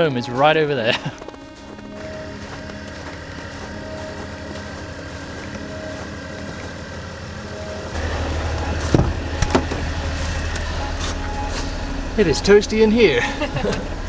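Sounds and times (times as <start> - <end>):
van engine idling: 0.0 - 14.0.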